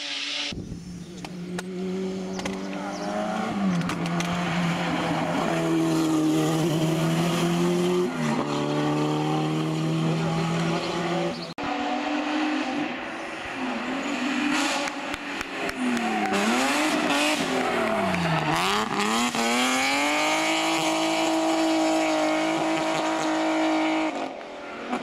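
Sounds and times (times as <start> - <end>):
race car engine revving: 1.2 - 25.0.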